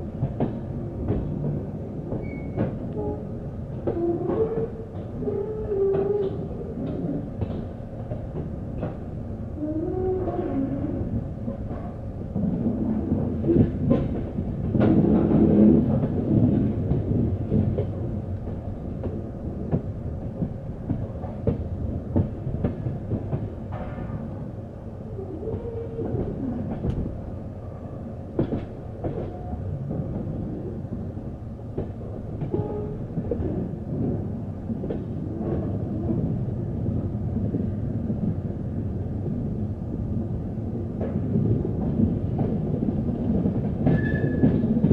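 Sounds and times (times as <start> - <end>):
train coaches rumbling: 0.0 - 44.9.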